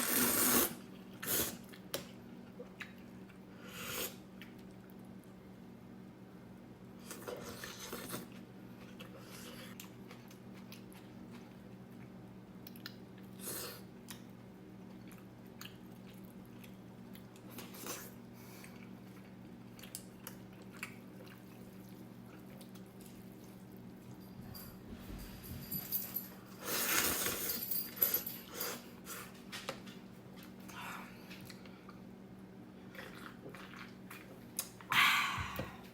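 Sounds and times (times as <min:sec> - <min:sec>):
steady low hum: 0:00.8 - 0:35.9.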